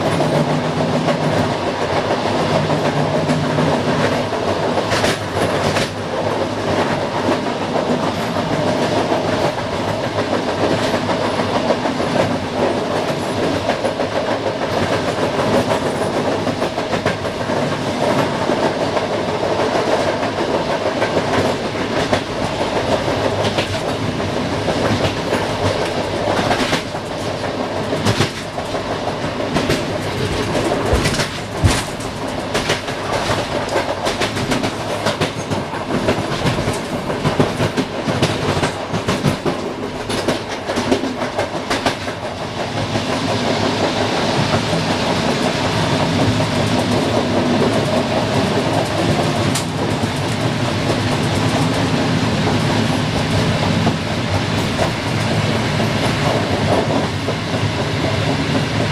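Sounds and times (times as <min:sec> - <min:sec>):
steady train rumble: 0:00.0 - 0:58.9
train wheels clattering over rail joints: 0:00.0 - 0:58.9.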